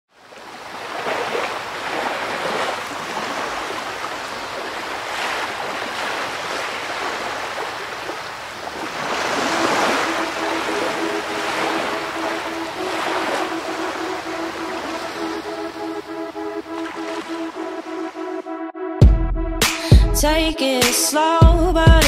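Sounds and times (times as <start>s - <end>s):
ocean surf rushing: 0.2s - 18.5s.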